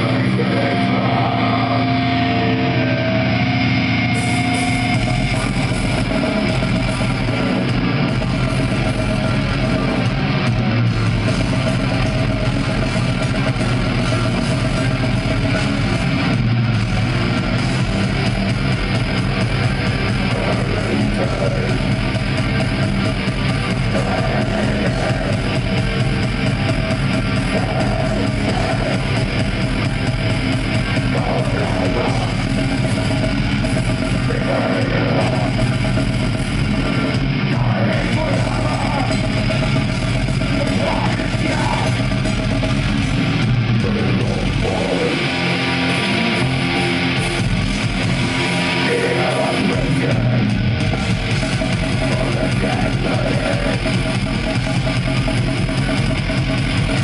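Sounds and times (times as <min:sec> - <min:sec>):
bass: 0:00.0 - 0:57.0
distorted electric guitars: 0:00.0 - 0:57.0
drum kit: 0:00.0 - 0:57.0.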